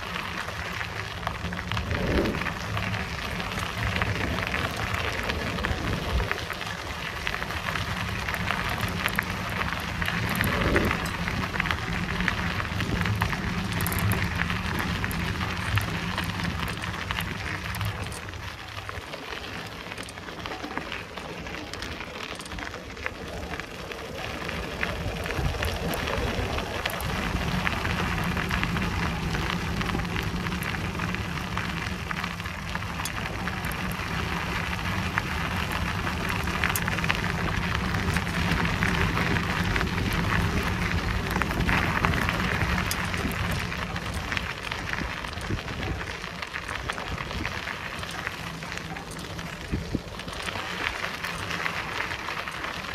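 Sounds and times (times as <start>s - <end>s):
bicycle tyres on dirt path: 0.0s - 52.9s.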